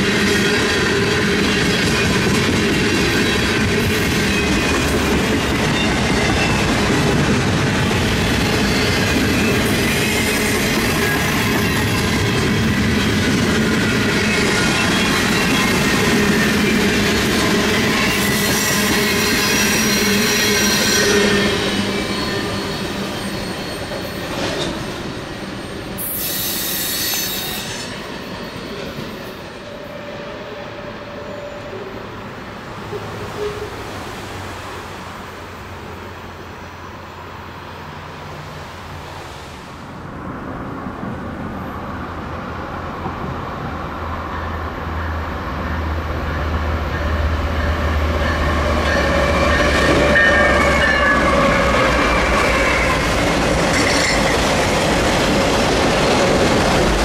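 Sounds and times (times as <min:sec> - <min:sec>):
train wheels squealing on rail: 0:00.0 - 0:34.5, 0:44.1 - 0:57.0
freight train cars rumbling: 0:00.0 - 0:57.0.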